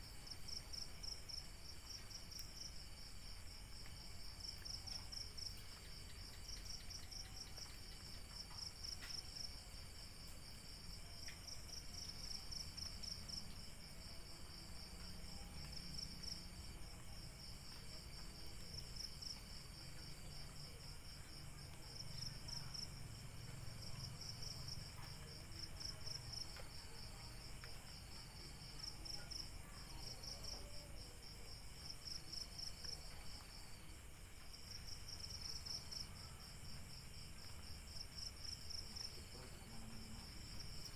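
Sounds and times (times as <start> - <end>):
insects chirping in trills: 0.0 - 40.9.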